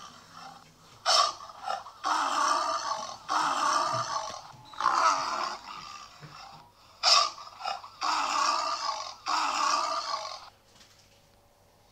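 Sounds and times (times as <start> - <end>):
tiger-like roars: 0.0 - 10.5.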